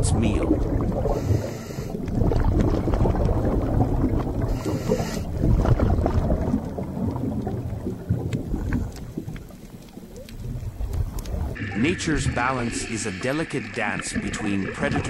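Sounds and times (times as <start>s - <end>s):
underwater water rumble: 0.0s - 15.0s
crackling clicks: 0.5s - 14.2s.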